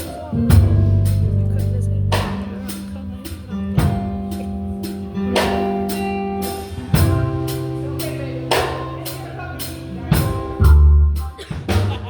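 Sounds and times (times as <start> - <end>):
bass notes: 0.0 - 12.0
drum kit beats: 0.0 - 12.0
guitar: 0.0 - 12.0
keyboard chords: 0.0 - 12.0.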